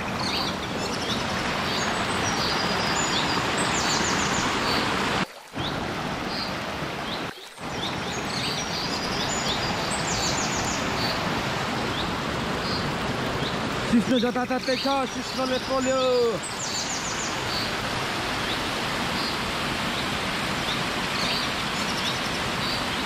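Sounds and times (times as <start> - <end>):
birds chirping: 0.0 - 5.0, 5.6 - 17.8, 18.4 - 23.0
waterfall and stream rushing: 0.0 - 23.0.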